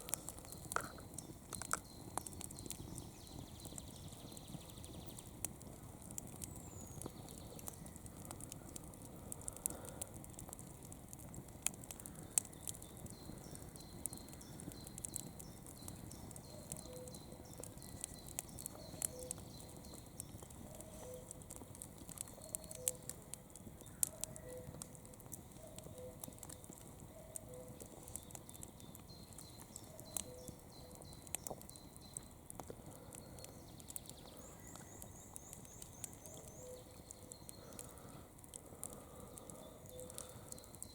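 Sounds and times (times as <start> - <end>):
campfire hissing: 0.0 - 40.9
wood crackling and popping: 0.0 - 40.9.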